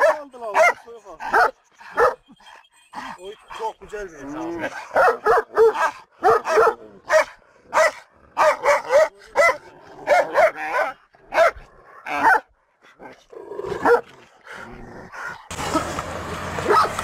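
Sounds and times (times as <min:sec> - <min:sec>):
dogs barking deeply: 0:00.0 - 0:03.1, 0:04.4 - 0:16.0, 0:16.6 - 0:17.0.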